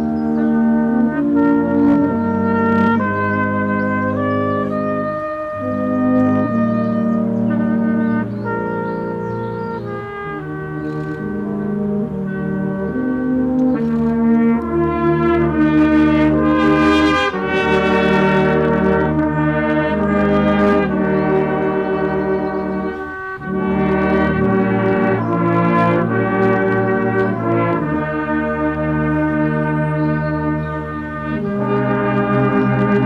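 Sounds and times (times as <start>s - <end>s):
brass ensemble playing slow chords: 0.0s - 33.0s.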